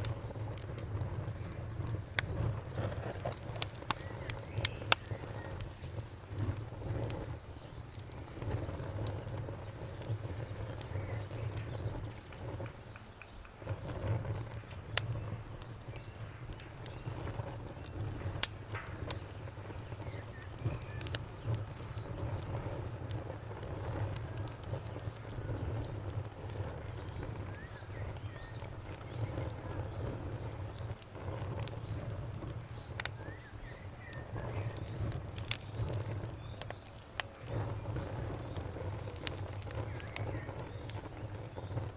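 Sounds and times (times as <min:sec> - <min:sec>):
burning wood crackling and popping: 0:00.0 - 0:41.9
campfire flames rumbling: 0:00.0 - 0:41.9
insects chirping: 0:00.0 - 0:41.9.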